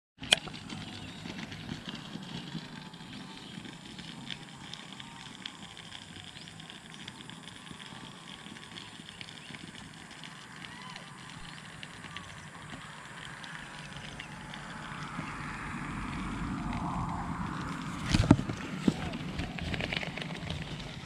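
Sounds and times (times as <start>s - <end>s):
faint calls: 2.5s - 20.8s.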